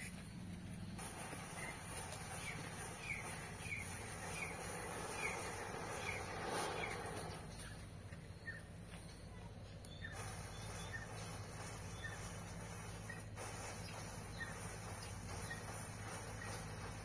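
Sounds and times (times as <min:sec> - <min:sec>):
bird chirping: 0:00.0 - 0:17.0
hiss of burning firecracker: 0:00.8 - 0:07.8, 0:10.0 - 0:17.0.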